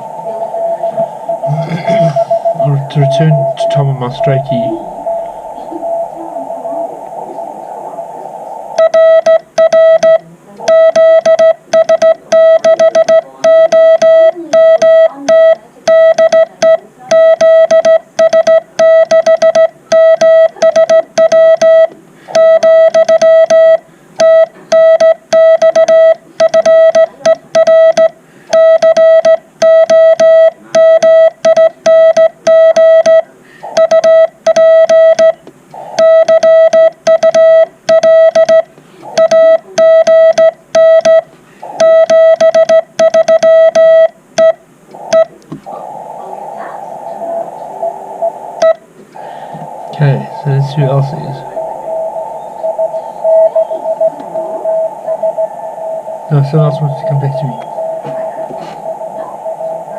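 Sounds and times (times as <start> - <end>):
morse code beeping: 0.0 - 6.6, 8.8 - 45.3, 48.2 - 59.9.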